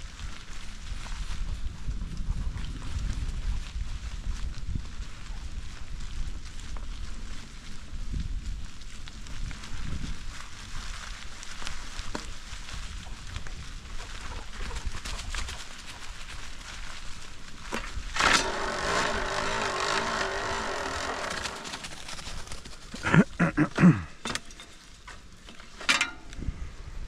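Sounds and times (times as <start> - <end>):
small crackles and clicks: 0.0 - 23.1
bicycle rolling over leaves: 0.0 - 23.2, 24.4 - 27.0.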